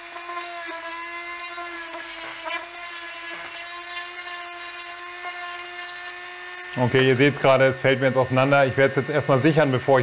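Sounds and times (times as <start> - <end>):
drill bit scratchy ticks: 0.0 - 9.2
rotary drill whining: 0.0 - 10.0.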